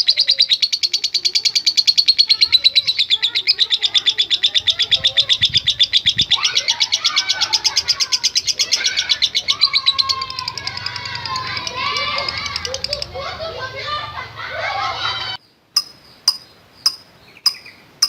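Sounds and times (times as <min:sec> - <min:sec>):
lovebird chattering: 0:00.0 - 0:13.6, 0:15.8 - 0:18.0.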